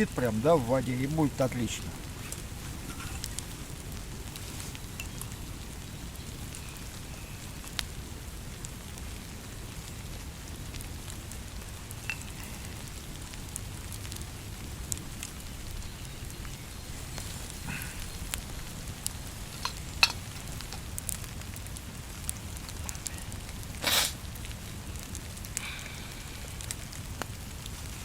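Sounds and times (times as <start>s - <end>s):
campfire crackling: 0.0s - 28.0s
steady low background noise: 0.0s - 28.0s.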